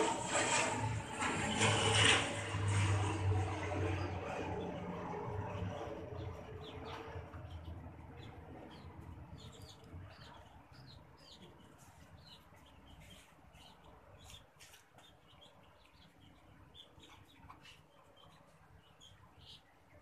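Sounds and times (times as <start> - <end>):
small birds chirping: 3.6 - 20.0.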